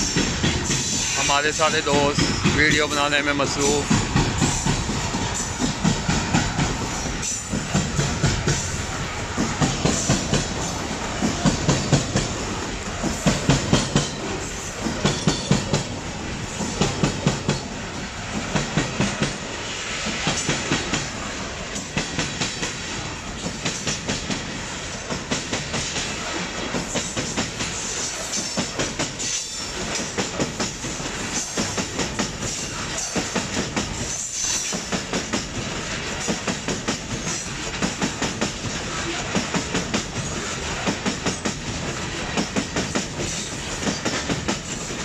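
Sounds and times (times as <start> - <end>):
train rolling rumble: 0.0 - 45.0
train wheels clattering over rail joints: 0.0 - 45.0.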